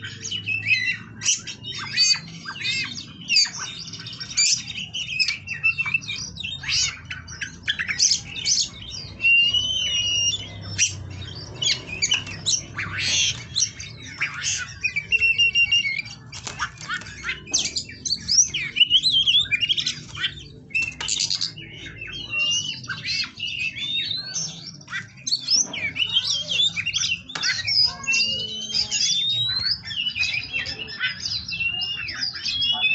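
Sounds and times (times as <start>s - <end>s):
magpie-robin singing: 0.0s - 32.9s.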